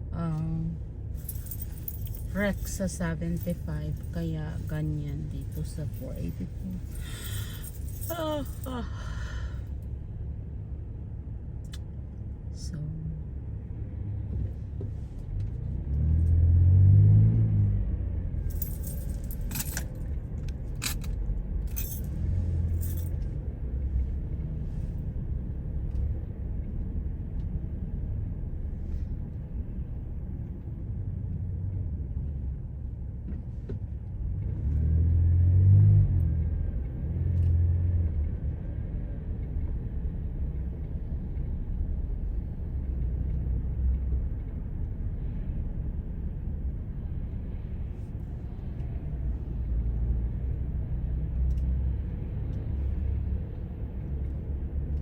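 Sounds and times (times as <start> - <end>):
engine and road noise rumble: 0.0 - 55.0.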